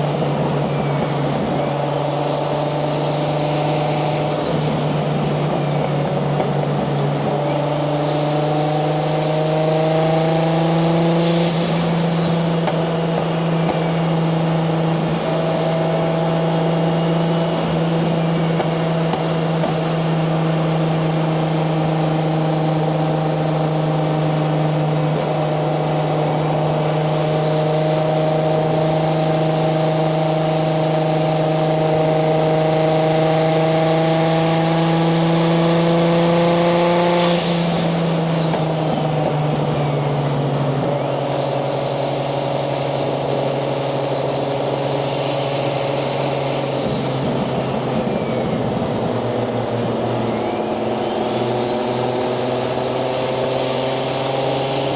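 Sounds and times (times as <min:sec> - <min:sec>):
car engine cruising: 0:00.0 - 0:54.9
turbo whine: 0:00.0 - 0:54.9.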